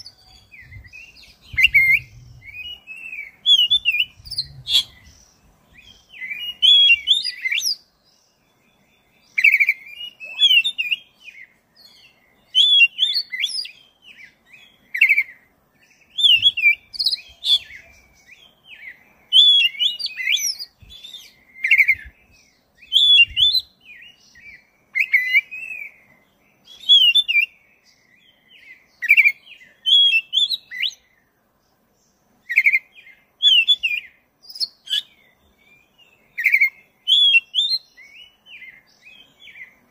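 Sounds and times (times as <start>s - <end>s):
magpie-robin singing: 0.0s - 31.2s, 32.0s - 39.9s.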